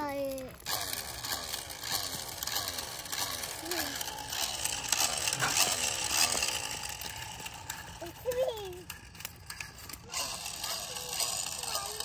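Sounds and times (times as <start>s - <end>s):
toy motor whirring and rattling: 0.0s - 12.0s.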